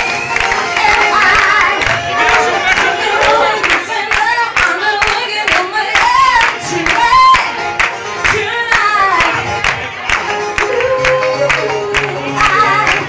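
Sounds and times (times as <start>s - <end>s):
dance music backing track: 0.0s - 13.0s
woman singing into microphone: 0.7s - 7.6s, 8.2s - 9.5s, 10.6s - 13.0s.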